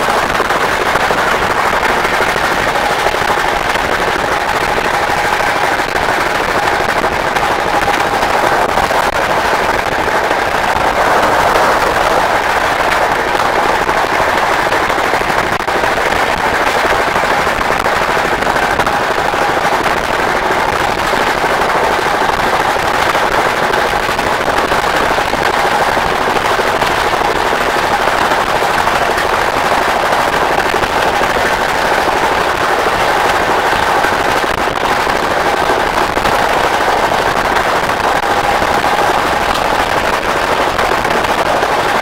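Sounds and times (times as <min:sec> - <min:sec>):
faint steady hum: 0:00.0 - 0:42.0
train wheels rattling and clattering: 0:00.0 - 0:42.0.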